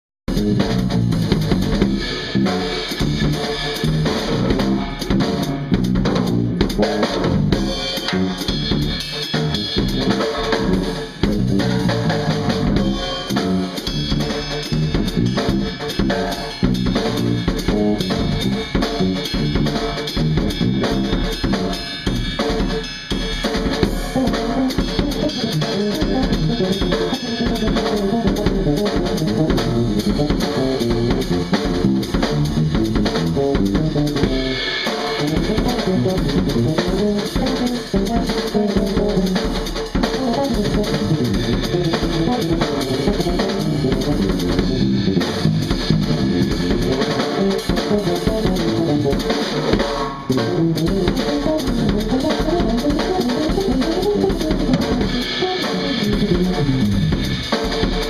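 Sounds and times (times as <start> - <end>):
electric bass line: 0.3 - 22.4, 23.7 - 58.0
drum kit playing: 0.3 - 58.0.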